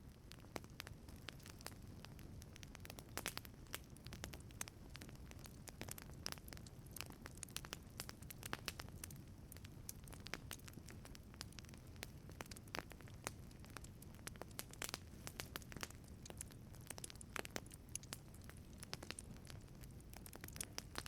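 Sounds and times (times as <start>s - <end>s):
low steady fire rumble: 0.0s - 21.0s
wood fire crackling and popping: 0.0s - 21.0s.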